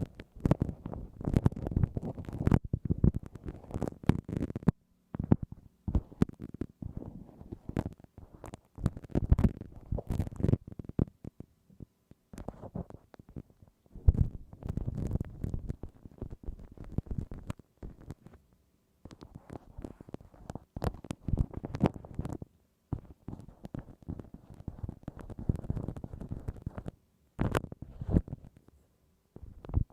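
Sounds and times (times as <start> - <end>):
ear pick scraping microphone: 0.0 - 11.4, 12.3 - 18.4, 19.0 - 28.6.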